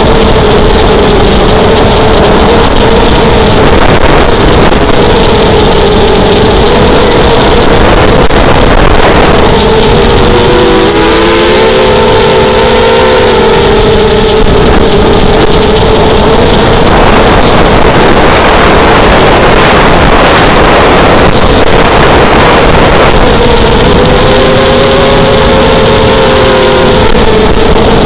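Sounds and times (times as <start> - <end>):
quadcopter motors whining: 0.0 - 28.0
rush of air noise: 0.0 - 28.0.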